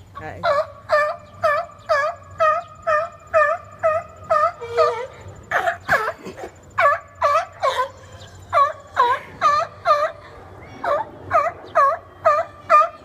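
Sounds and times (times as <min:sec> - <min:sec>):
seals calling: 0:00.2 - 0:13.0.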